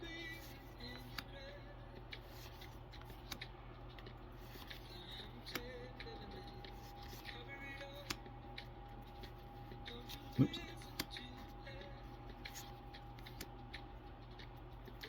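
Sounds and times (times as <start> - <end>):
cards rustling: 0.0 - 15.0
light clicks of card edges: 0.1 - 15.0.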